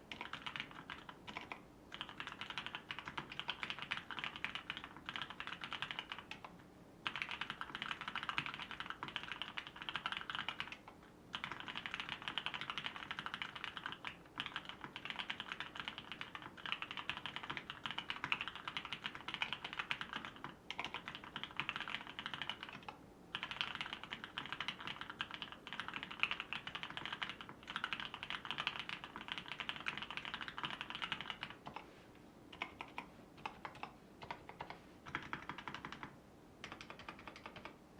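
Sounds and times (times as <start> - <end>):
mechanical keyboard typing: 0.1 - 31.8, 32.5 - 37.8.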